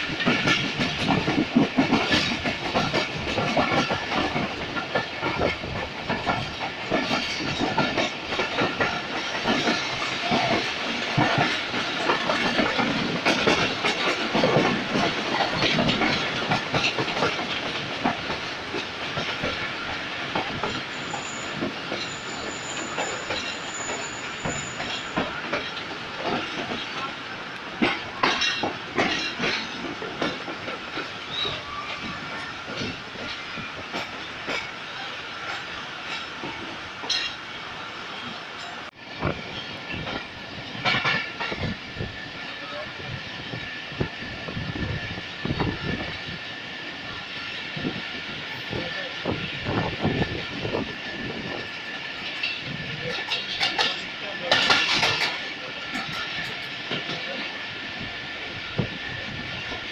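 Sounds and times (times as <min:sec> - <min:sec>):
wheels clattering over rail joints: 0:00.0 - 0:37.5, 0:38.6 - 0:41.8, 0:47.8 - 0:57.5.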